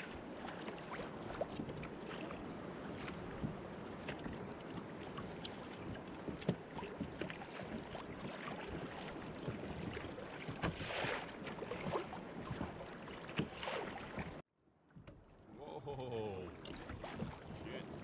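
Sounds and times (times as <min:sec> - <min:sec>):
water lapping against kayak hull: 0:00.0 - 0:18.0.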